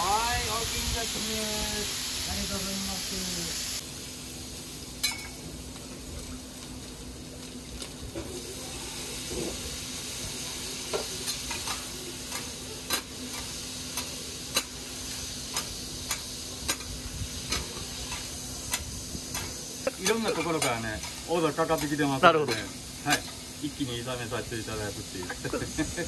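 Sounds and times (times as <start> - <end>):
meat sizzling on hot plate: 0.0 - 26.0.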